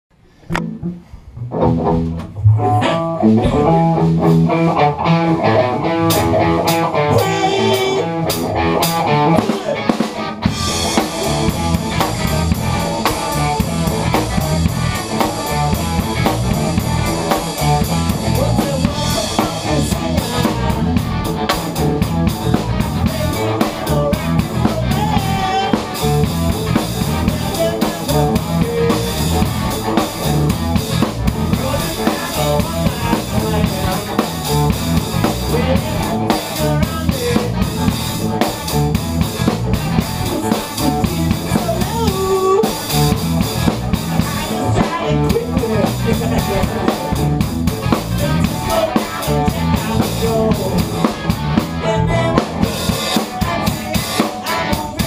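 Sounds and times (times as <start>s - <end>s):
electric guitar chords: 0.3s - 55.0s
live rock band: 0.3s - 55.0s
drum kit with cymbals: 6.1s - 55.0s.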